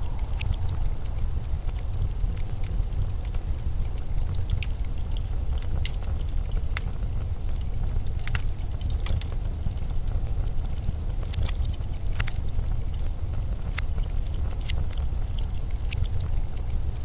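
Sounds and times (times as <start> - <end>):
blizzard wind rumble: 0.0 - 17.0
sharp crackles or ticks: 0.0 - 17.0.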